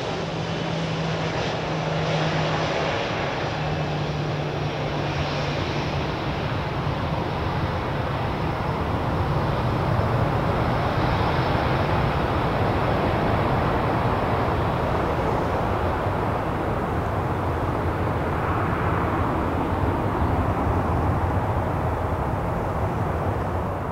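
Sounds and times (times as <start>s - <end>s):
jet engines rumbling: 0.0s - 23.9s.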